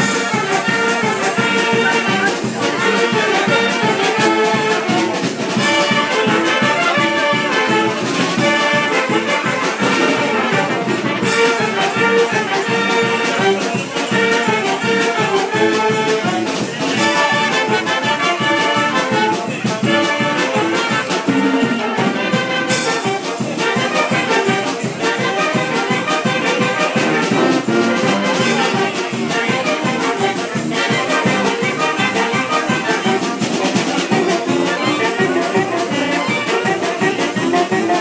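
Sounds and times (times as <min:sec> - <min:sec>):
brass street band playing: 0:00.0 - 0:38.0.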